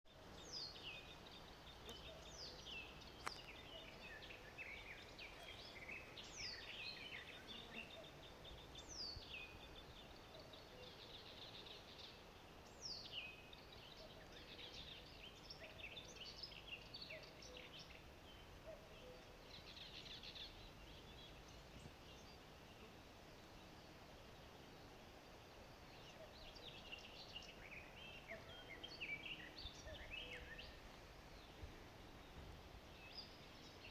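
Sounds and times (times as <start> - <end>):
faint songbirds singing: 0.1 - 33.9.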